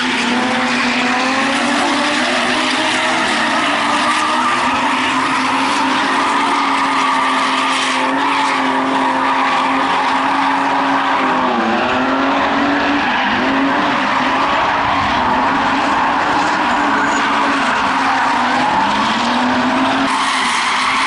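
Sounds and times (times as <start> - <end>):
car engines revving high: 0.0 - 21.0
tyres squealing on concrete: 0.0 - 21.0.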